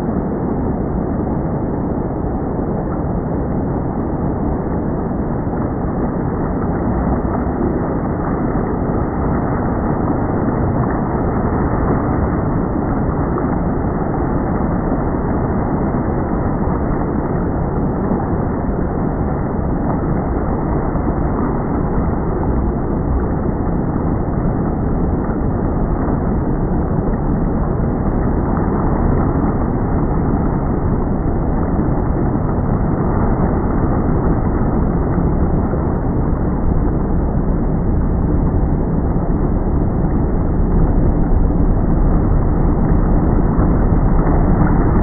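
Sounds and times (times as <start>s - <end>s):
boat motor and water rushing: 0.0s - 45.0s.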